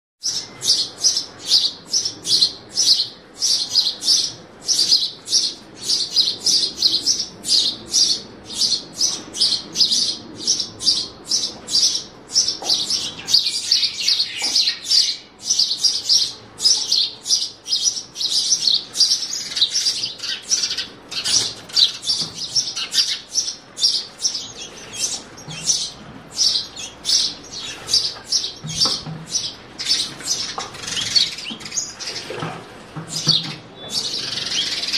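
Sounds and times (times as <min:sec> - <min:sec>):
sparrows chirping: 0:00.2 - 0:34.9.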